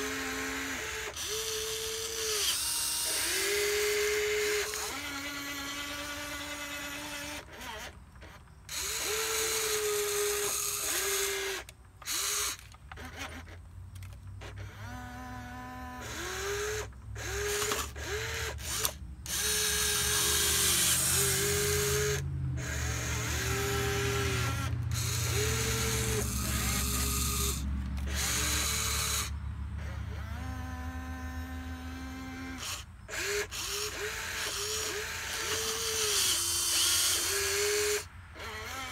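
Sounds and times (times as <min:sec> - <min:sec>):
electric motors whining: 0:00.0 - 0:38.9.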